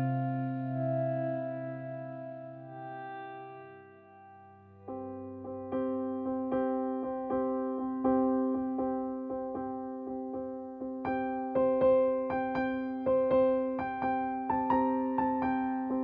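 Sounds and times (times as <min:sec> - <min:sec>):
soft piano-like keyboard music: 0:00.0 - 0:16.0.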